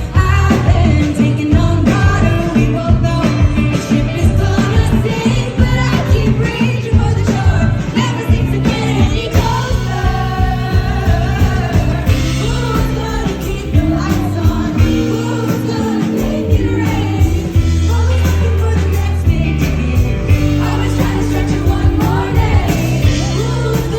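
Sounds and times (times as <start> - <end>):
live rock band playing and singing: 0.0 - 23.9
audience singing along: 0.6 - 23.9.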